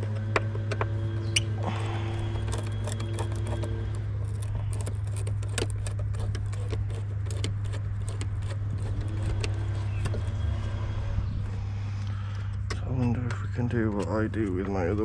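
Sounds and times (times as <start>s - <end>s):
steady low hum: 0.0s - 15.0s
hand tools clicking and tapping: 0.1s - 1.0s, 1.6s - 10.4s, 12.3s - 15.0s.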